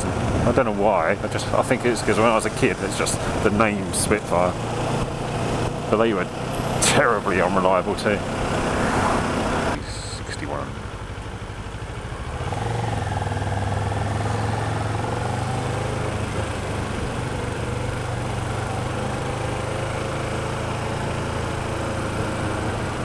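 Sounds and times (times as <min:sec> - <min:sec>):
motorcycle engine at low revs: 0:00.0 - 0:23.0
traffic noise: 0:00.0 - 0:23.0.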